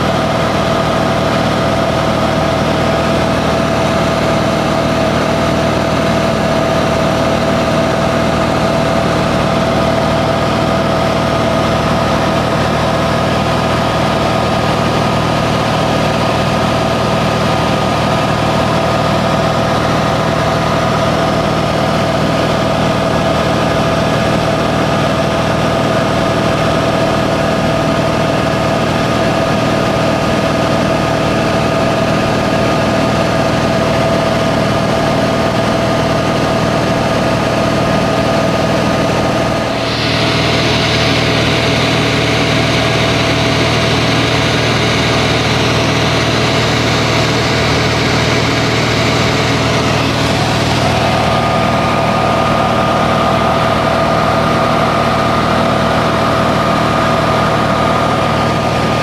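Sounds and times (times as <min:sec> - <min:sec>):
small plane engine drone: 0:00.0 - 0:59.0.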